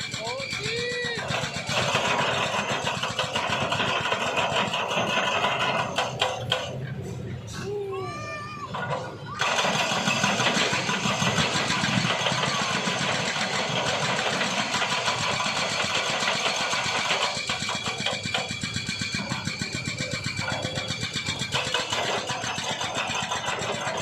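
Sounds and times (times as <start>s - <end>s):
small engine running: 0.0s - 7.2s, 8.7s - 24.0s.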